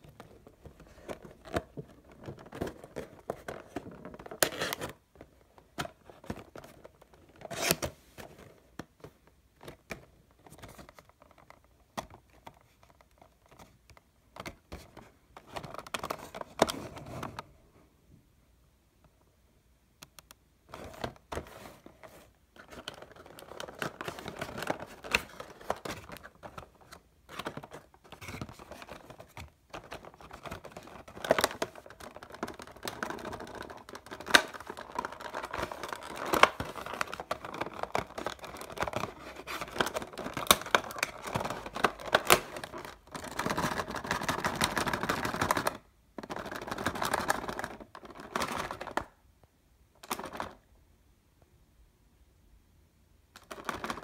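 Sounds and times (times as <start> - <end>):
cardboard and plastic packaging rustling: 0.0 - 17.5, 20.7 - 49.2, 53.4 - 54.0.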